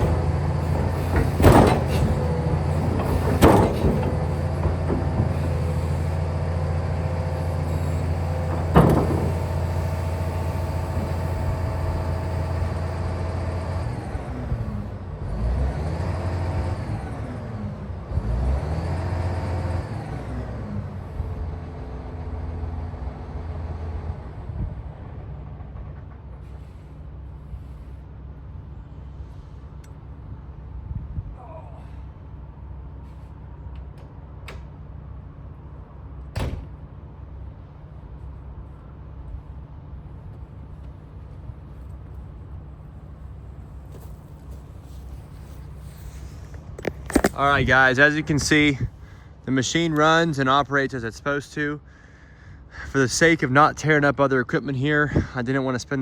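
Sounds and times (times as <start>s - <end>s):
excavator diesel engine and hydraulics: 0.0s - 56.0s.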